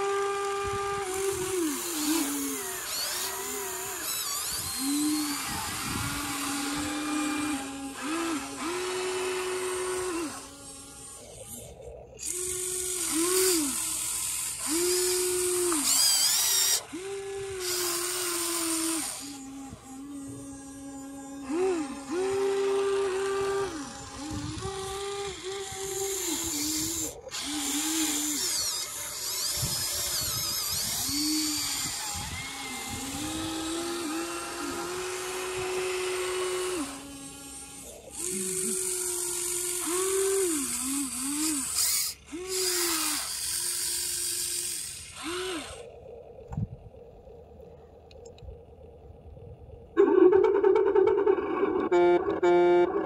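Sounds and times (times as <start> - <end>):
small electric motors whining: 0.0 - 53.0.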